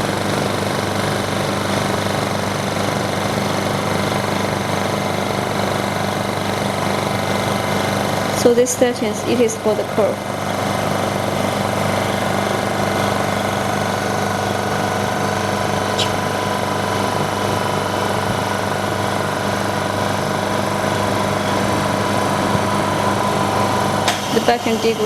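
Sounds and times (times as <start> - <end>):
vacuum pump running: 0.0 - 25.0.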